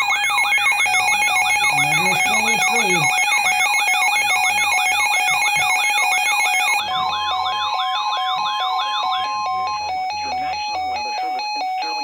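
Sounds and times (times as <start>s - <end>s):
steady alarm tone: 0.0s - 12.0s.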